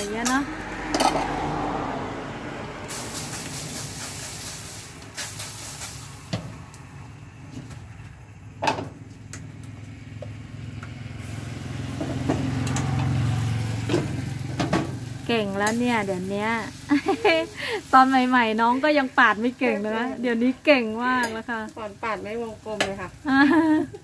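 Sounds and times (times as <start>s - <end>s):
road traffic passing: 0.0s - 24.0s
vehicle engine: 0.0s - 24.0s.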